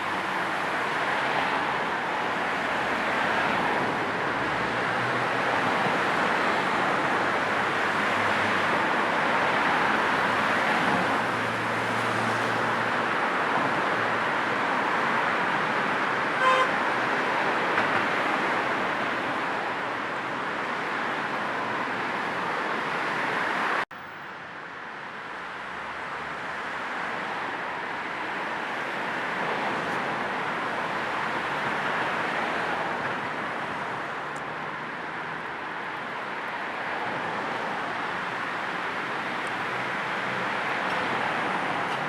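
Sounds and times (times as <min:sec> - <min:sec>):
car road noise: 0:00.0 - 0:42.0.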